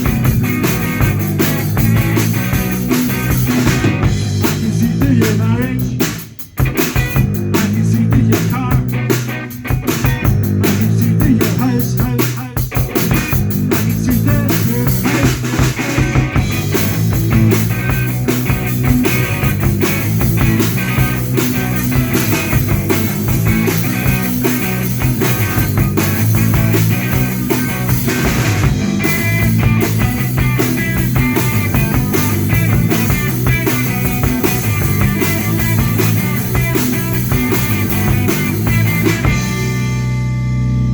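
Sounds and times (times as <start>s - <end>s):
drum kit beat with snare hits: 0.0s - 40.2s
rock band playing: 0.0s - 40.9s.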